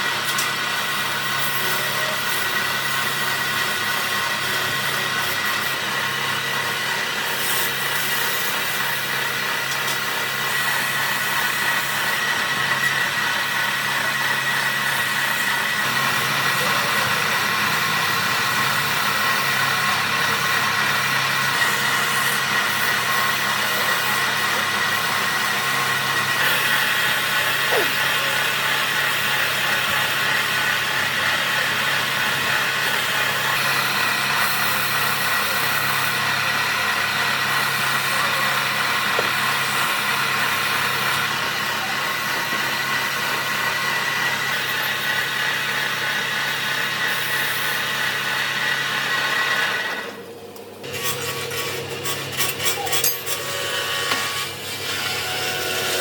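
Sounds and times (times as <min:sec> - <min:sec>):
power tool whining: 0:00.0 - 0:50.2, 0:50.8 - 0:56.0.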